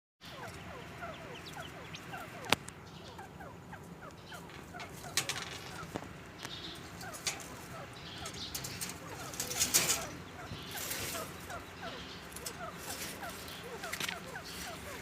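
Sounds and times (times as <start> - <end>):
quail chirping: 0.2 - 15.0.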